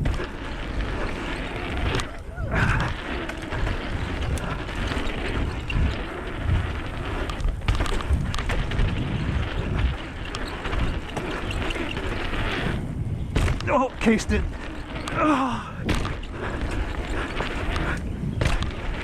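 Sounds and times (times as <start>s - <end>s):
bike knocks and rattles: 0.0s - 19.0s
tyres rolling over dirt: 0.0s - 19.0s
wind buffeting microphone: 0.0s - 19.0s.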